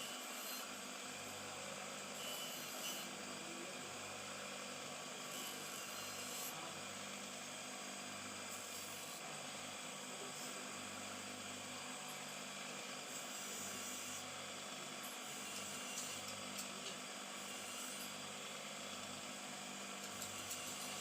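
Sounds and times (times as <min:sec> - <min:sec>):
small electric motor humming: 0:00.0 - 0:21.0.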